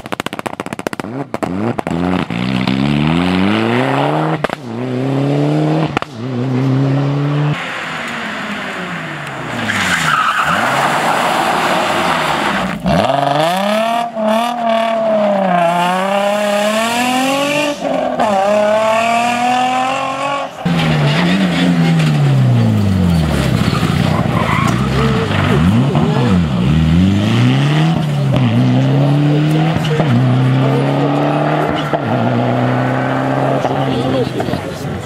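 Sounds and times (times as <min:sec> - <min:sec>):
rally car engine revving: 0:00.0 - 0:35.0
rally car passing by: 0:02.2 - 0:35.0.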